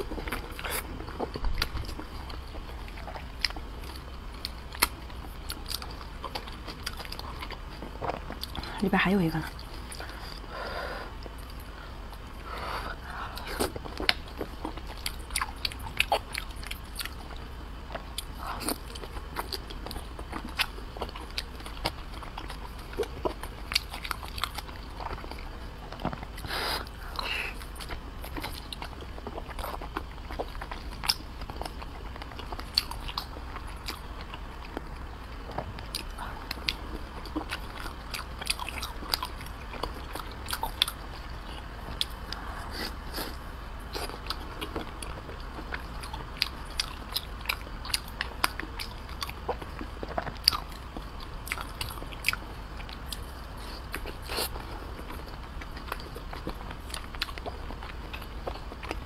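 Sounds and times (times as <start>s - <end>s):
chewing soft food: 0.0s - 59.0s.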